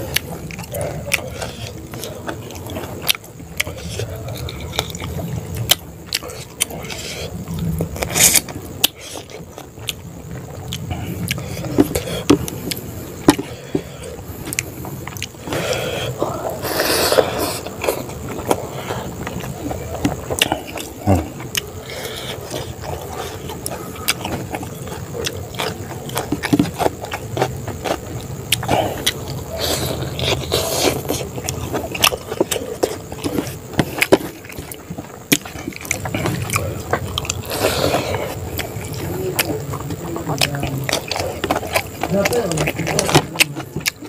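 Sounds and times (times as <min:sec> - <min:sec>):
chewing with wet smacks: 0:00.0 - 0:44.0.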